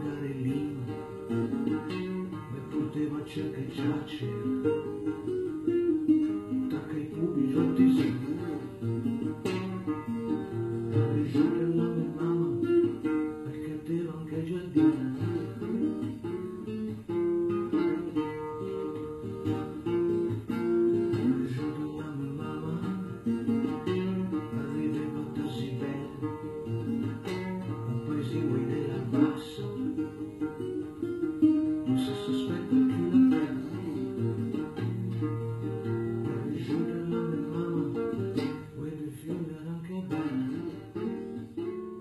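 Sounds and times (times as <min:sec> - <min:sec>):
classical guitar playing: 0:00.0 - 0:42.0.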